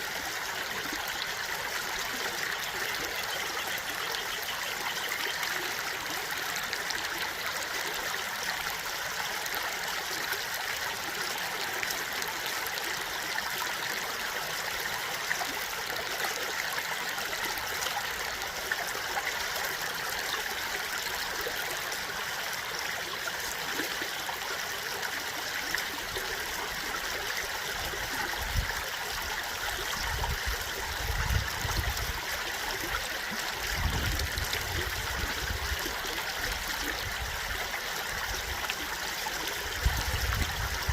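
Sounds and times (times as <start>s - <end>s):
stream of water trickling: 0.0s - 40.9s.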